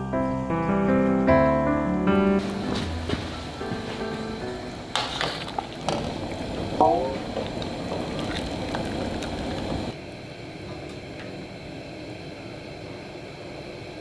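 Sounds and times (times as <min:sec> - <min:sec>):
steady background hiss: 0:00.0 - 0:14.0
broth boiling and bubbling: 0:02.4 - 0:14.0.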